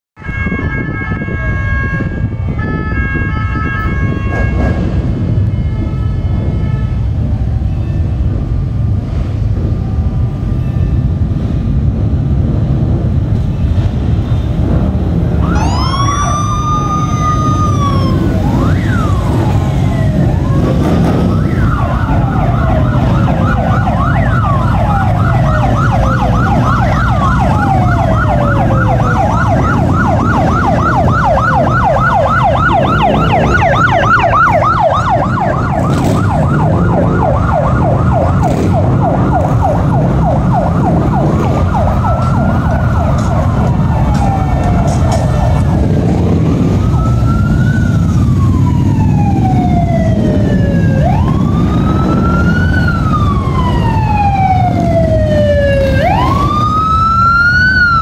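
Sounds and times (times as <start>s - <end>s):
police sirens wailing and yelping: 0.2s - 13.2s, 14.6s - 58.0s
motorcycle engines rumbling: 0.2s - 58.0s.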